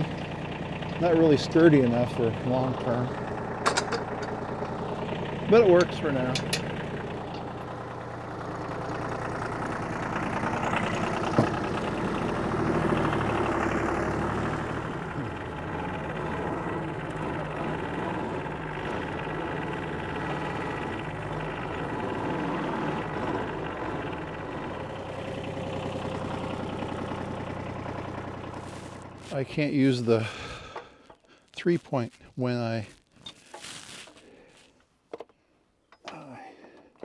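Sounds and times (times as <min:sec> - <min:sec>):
tractor engine running: 0:00.0 - 0:34.7.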